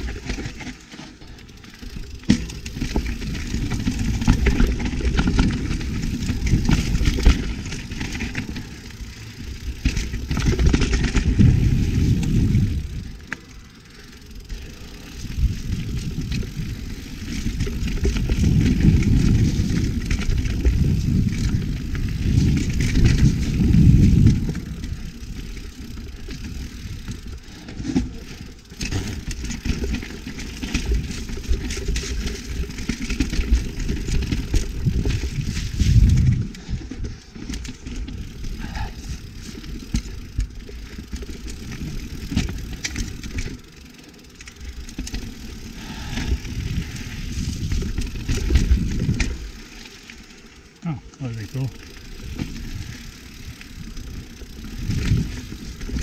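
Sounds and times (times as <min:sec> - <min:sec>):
bike tyres rumbling over dirt: 0:00.0 - 0:56.0.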